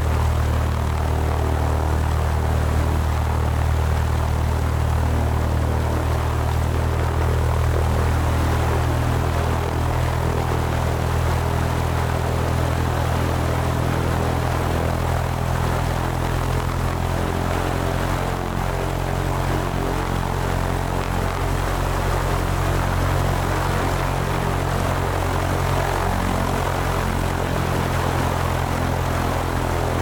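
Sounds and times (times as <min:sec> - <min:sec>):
propeller airplane engine drone: 0:00.0 - 0:30.0.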